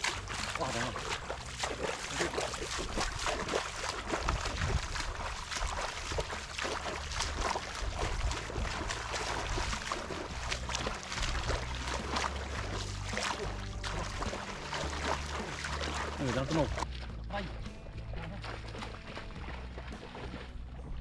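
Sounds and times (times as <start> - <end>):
footsteps splashing through muddy water: 0.0 - 21.0
steady low rumble: 0.0 - 21.0.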